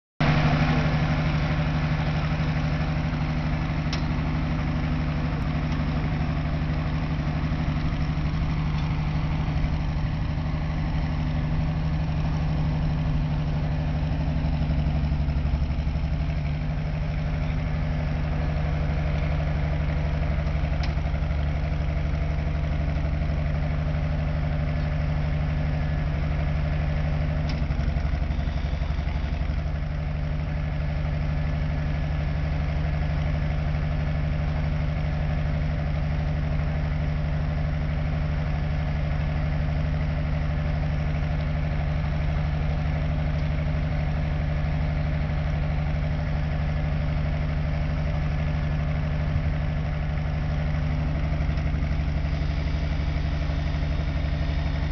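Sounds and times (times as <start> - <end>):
large engine idling: 0.2 - 54.9.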